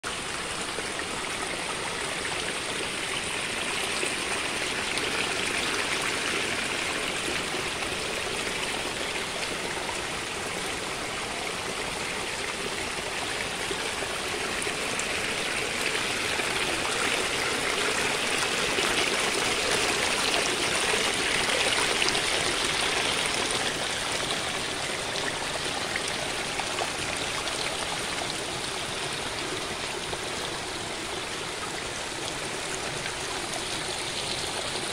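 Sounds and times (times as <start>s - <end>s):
water cascading over rocks: 0.1s - 34.9s.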